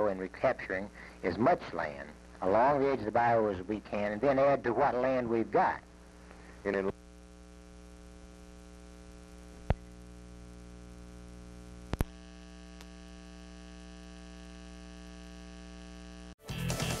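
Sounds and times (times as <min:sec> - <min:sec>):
electrical hum: 0:00.0 - 0:16.4.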